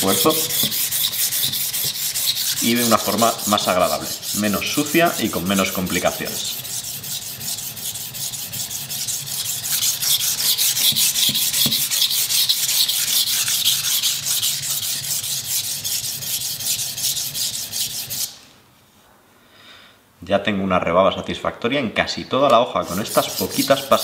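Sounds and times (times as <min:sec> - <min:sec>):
knife rasping on whetstone: 0:00.0 - 0:18.4, 0:22.8 - 0:24.0.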